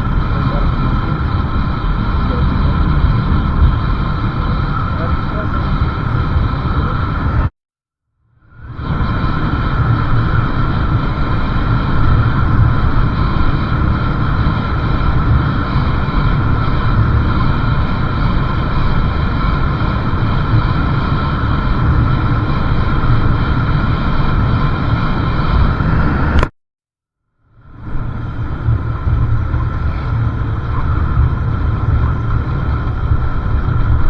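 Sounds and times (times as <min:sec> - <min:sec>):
wind rumble on microphone: 0:00.0 - 0:07.5, 0:08.5 - 0:26.5, 0:27.6 - 0:34.0.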